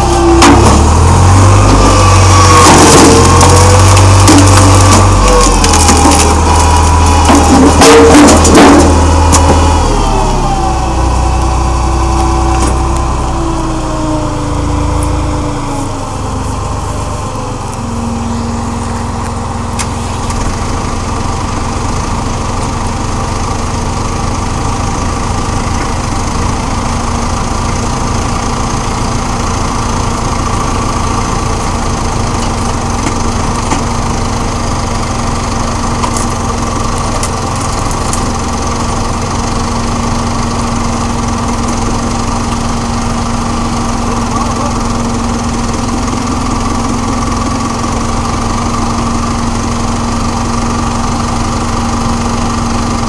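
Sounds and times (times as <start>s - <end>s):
tractor engine droning: 0.0s - 53.0s.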